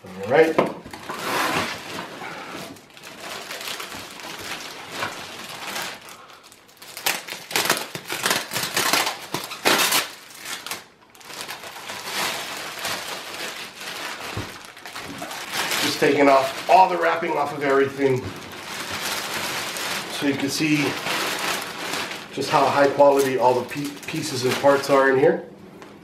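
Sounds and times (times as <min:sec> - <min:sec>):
plastic wrapping crinkling: 0:00.1 - 0:25.4.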